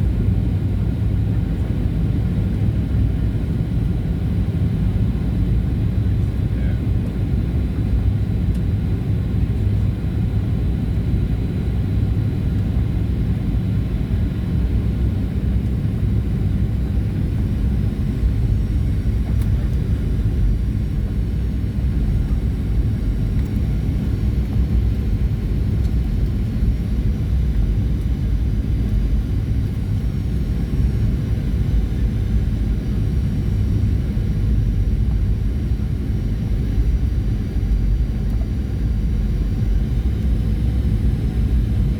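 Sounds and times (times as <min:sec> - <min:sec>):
aircraft cabin engine rumble: 0:00.0 - 0:41.9.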